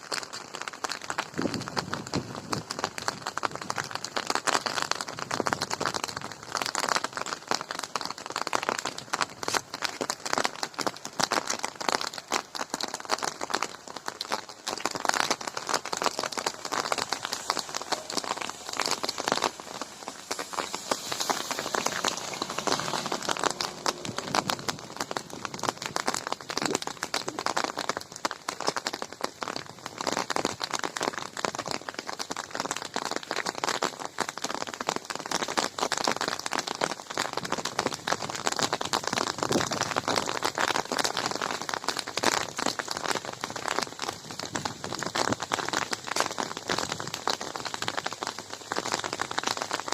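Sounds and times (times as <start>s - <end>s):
rain on hard surfaces: 0.0s - 49.9s.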